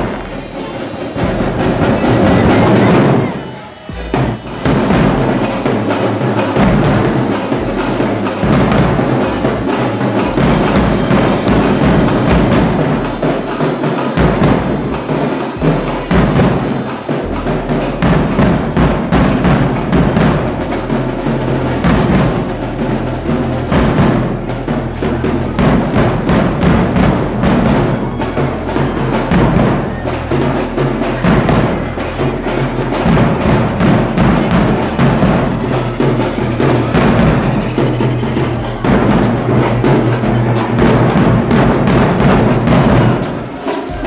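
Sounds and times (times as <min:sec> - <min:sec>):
marching band drums: 0:00.0 - 0:44.0.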